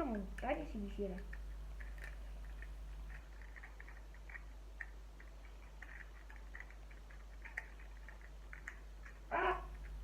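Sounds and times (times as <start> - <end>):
plastic packets clicking and crackling: 0.0 - 10.0.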